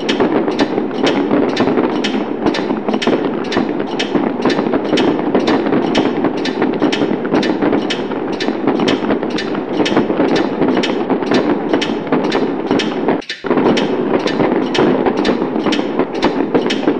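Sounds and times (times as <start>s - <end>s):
fireworks bangs: 0.0s - 16.9s
fireworks crackling: 0.0s - 16.9s.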